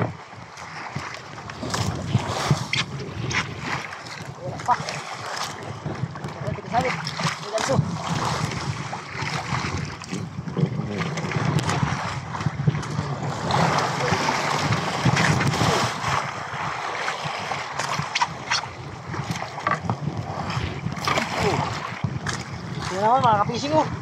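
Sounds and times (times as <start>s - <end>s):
water splashing against boat: 0.0s - 24.0s
wind on microphone: 0.0s - 24.0s.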